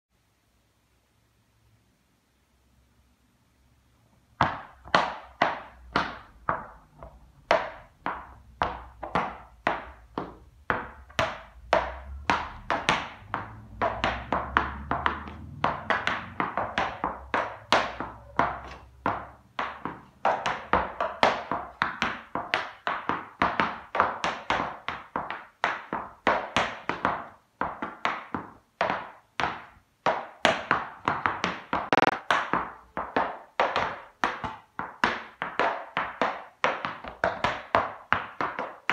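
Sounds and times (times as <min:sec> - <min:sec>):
tap shoes clicking on hard floor: 0:04.4 - 0:38.9.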